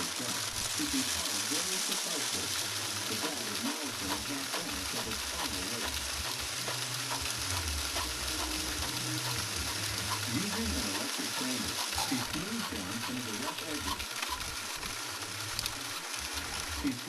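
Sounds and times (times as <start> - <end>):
car wash hiss: 0.0 - 17.0
low uneven hum: 0.0 - 17.0.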